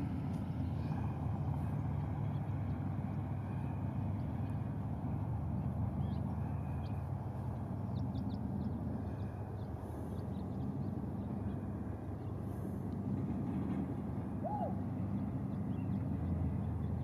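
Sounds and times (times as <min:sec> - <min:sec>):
convoy of vehicles rumbling: 0:00.0 - 0:17.0.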